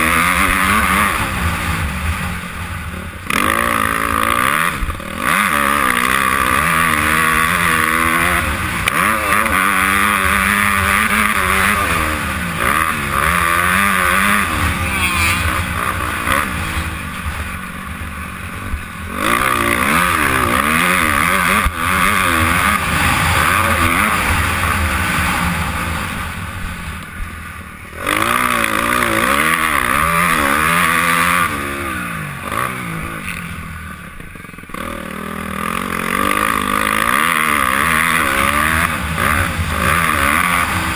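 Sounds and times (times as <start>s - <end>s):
motocross engine revving: 0.0s - 40.9s.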